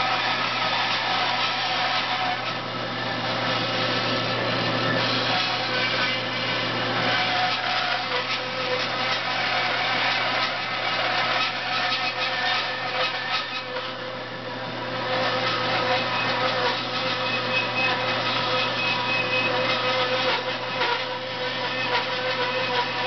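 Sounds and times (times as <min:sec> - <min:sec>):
bandsaw cutting wood: 0:00.0 - 0:23.0.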